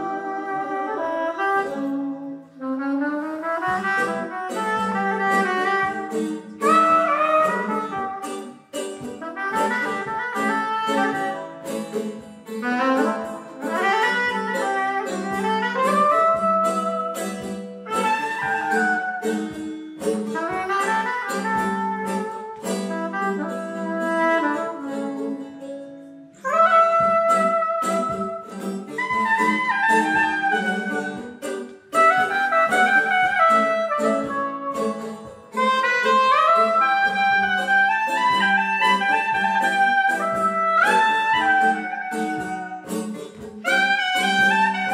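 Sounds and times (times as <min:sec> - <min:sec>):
plucked lute: 0:00.0 - 0:44.9
soprano saxophone melody: 0:00.0 - 0:44.9.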